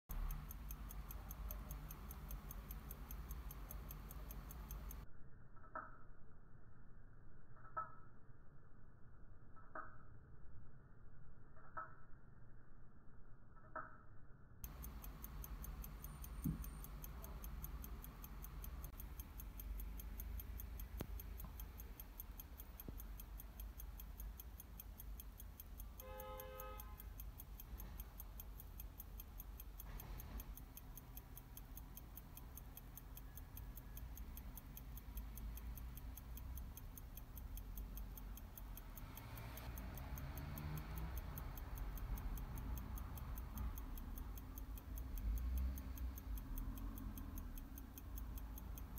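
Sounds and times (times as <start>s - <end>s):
pocket watch ticking: 0.0s - 5.0s, 14.6s - 48.9s.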